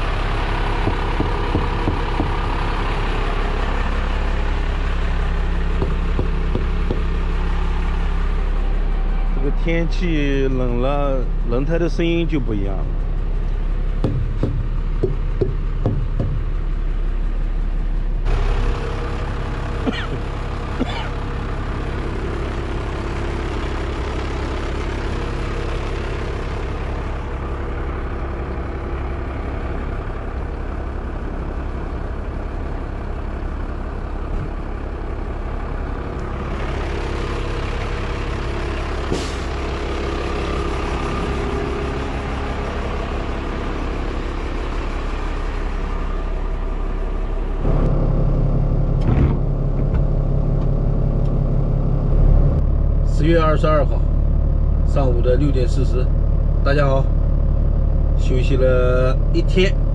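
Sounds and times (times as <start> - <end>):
diesel truck engine idling: 0.0 - 59.9
loud low rumble: 0.0 - 59.9.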